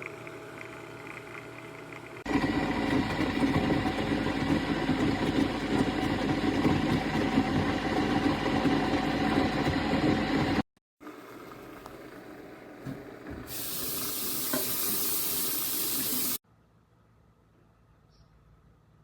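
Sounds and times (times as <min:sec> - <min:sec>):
coffee maker pump humming: 0:00.0 - 0:16.4.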